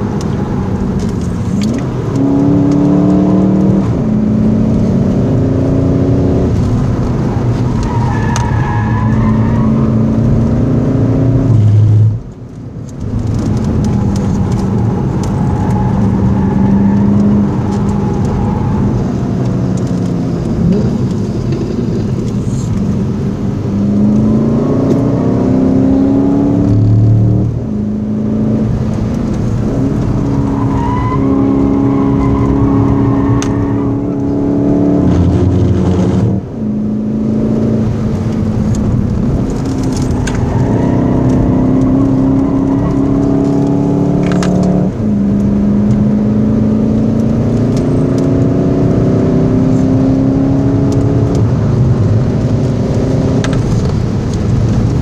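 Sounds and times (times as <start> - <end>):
diesel engine accelerating hard: 0.0 - 55.0.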